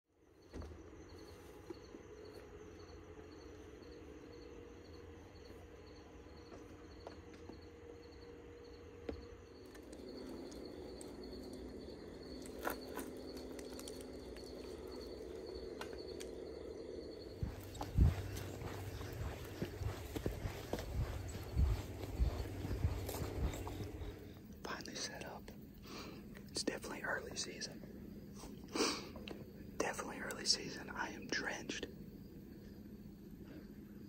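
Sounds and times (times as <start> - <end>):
crickets chirping: 0.1 - 34.0.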